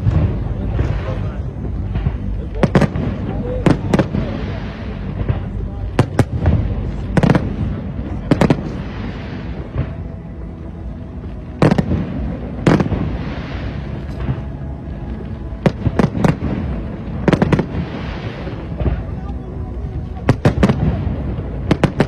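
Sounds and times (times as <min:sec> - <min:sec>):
fireworks bangs: 0:00.0 - 0:10.2, 0:11.6 - 0:14.6, 0:15.2 - 0:22.0
fireworks crackling: 0:00.0 - 0:22.0.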